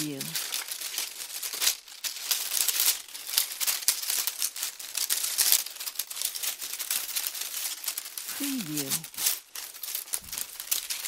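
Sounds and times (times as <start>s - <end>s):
sticks scratching and rubbing: 0.0s - 11.0s.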